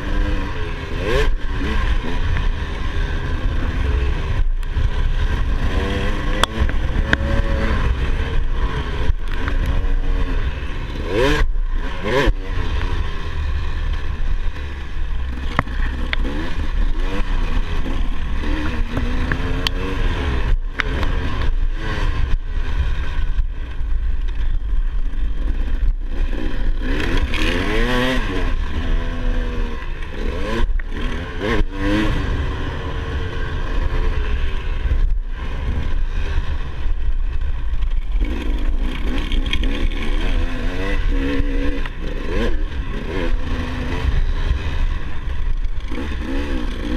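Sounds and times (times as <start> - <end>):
constant low rumble: 0.0 - 46.9
dirt bike engine revving: 0.0 - 46.9.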